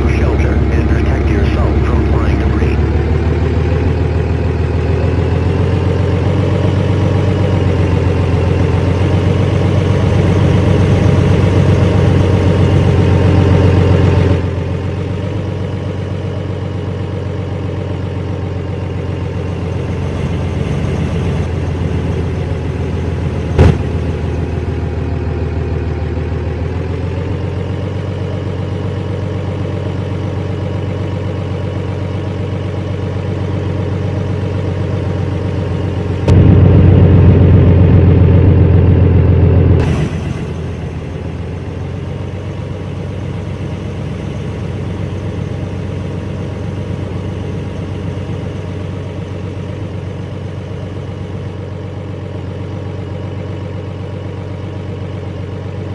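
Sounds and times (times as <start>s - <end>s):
vehicle engine running: 0.0s - 55.9s.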